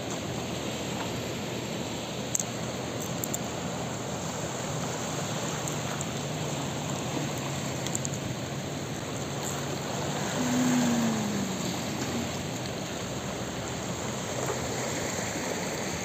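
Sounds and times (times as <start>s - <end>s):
rushing floodwater and surf: 0.0s - 16.0s.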